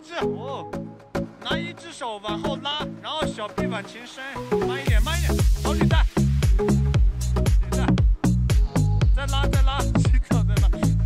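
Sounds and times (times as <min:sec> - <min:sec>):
electronic music with beat and bass: 0:00.0 - 0:11.0.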